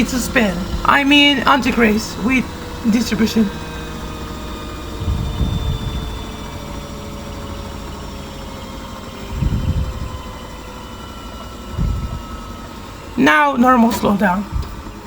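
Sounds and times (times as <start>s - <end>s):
washing machine drum rumbles: 0.0s - 7.9s, 9.2s - 15.0s
washing machine motor whine: 0.0s - 15.0s.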